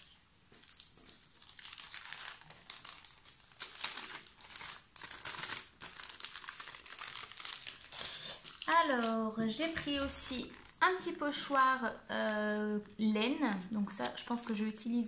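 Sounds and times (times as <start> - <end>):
packaging crinkling: 0.0 - 10.8, 13.5 - 15.0.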